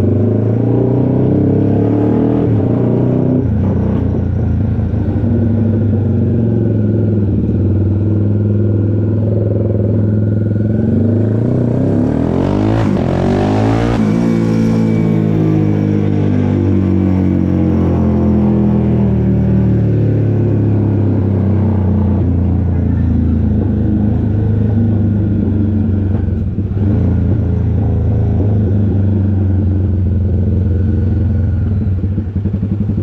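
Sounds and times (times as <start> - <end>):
motorcycle engine idling and revving: 0.0 - 33.0.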